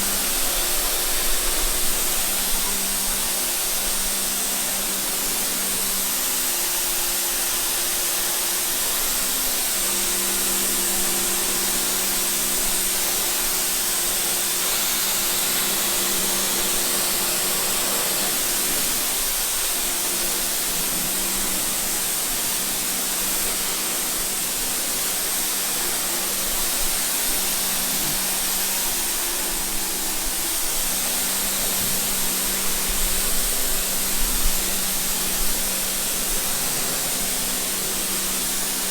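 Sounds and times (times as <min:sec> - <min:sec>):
water spraying hiss: 0:00.0 - 0:38.9.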